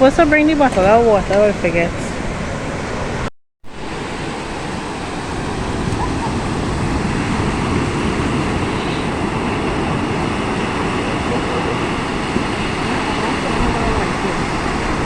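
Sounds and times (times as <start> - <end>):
sea surf rushing: 0.0 - 15.0
wind buffeting microphone: 0.0 - 15.0.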